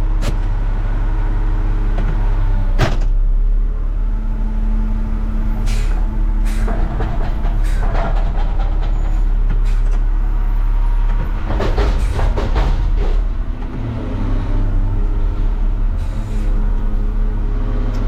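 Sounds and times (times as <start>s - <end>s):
diesel engine running under load: 0.0s - 18.0s
metal dumpster banging: 2.1s - 17.4s.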